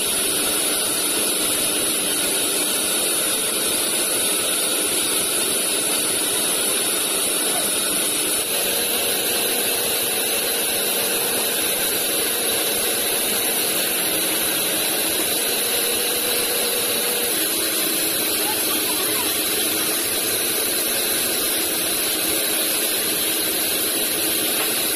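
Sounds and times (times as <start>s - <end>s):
band saw cutting log: 0.0s - 24.9s.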